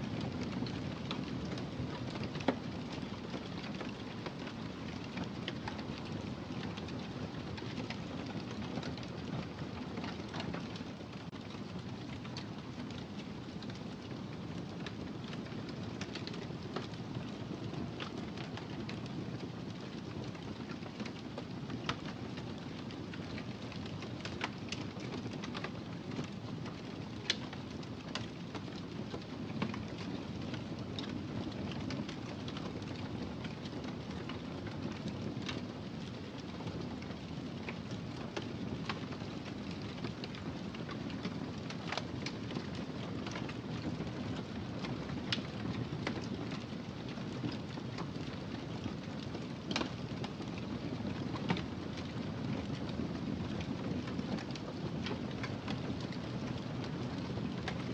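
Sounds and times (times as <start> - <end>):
low rumble of flames: 0.0 - 57.9
fire crackles and pops: 0.1 - 57.9.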